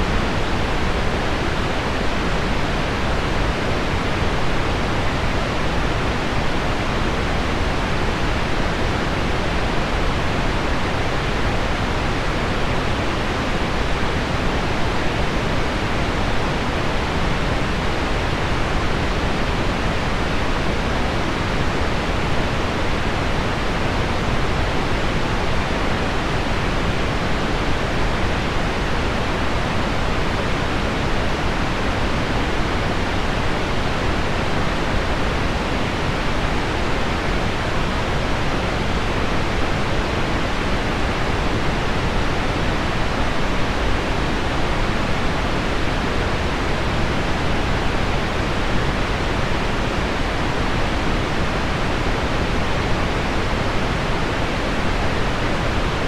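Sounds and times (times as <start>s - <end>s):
pink noise: 0.0s - 56.0s.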